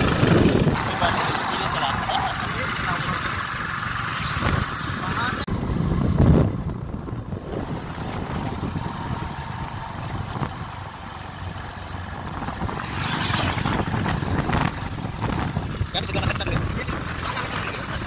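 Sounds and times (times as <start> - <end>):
truck passing: 0.0 - 18.0
vehicle engine and road noise: 0.0 - 18.0.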